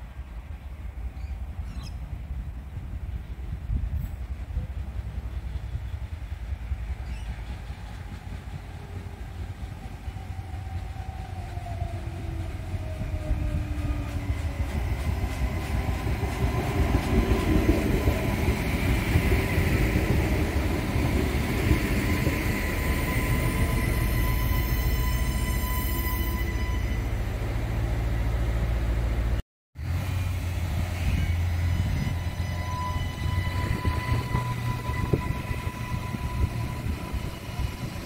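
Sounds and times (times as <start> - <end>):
diesel railcar rumble and whine: 0.0 - 38.0.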